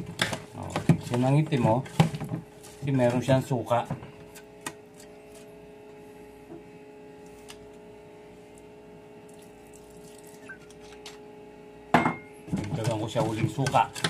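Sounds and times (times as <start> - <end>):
electrical appliance humming: 0.0 - 14.0.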